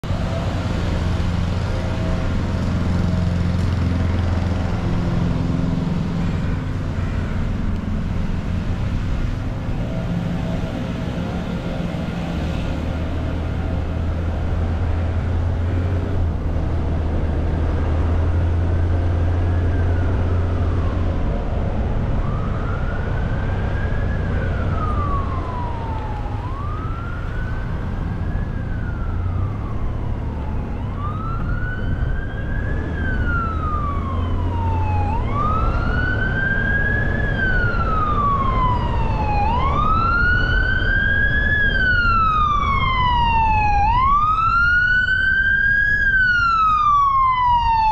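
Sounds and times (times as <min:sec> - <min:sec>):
car driving drone: 0:00.0 - 0:47.9
emergency vehicle siren wailing: 0:00.0 - 0:47.9.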